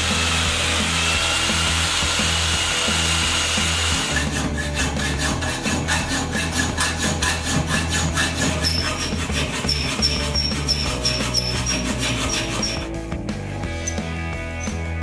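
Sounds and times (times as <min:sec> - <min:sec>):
jigsaw cutting metal: 0:00.0 - 0:12.9
hand file rasping metal: 0:00.0 - 0:13.0.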